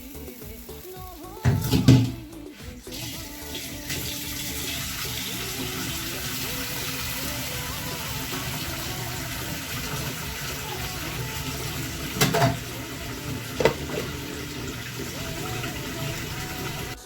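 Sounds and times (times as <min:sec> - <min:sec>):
water running from a tap: 0:00.0 - 0:17.0.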